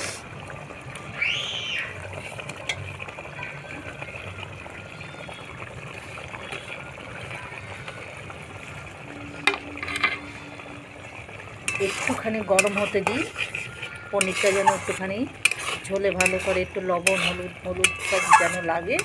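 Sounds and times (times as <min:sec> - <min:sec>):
gravy bubbling: 0:00.0 - 0:19.0.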